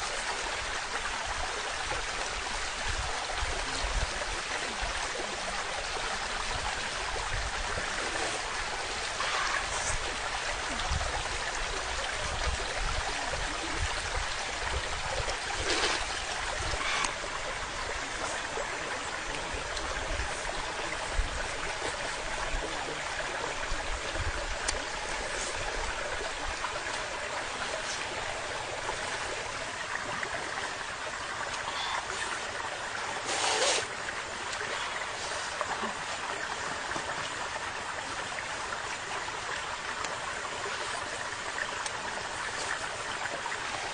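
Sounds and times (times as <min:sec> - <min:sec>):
stream water flowing: 0:00.0 - 0:43.9.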